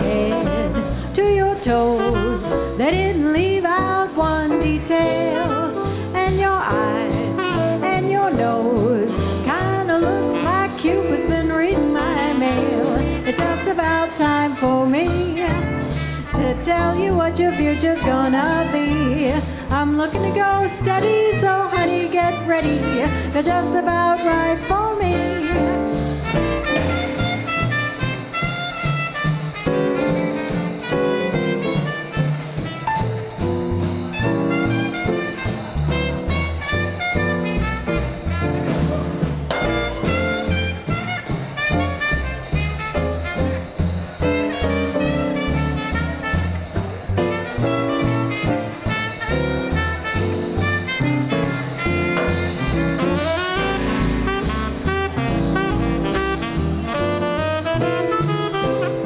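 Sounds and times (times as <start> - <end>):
saxophone: 0.0 - 3.2, 4.6 - 19.7, 20.3 - 33.4, 34.1 - 59.0
brass: 0.0 - 59.0
drums: 0.0 - 59.0
piano: 0.0 - 59.0
walking bass line: 0.0 - 59.0.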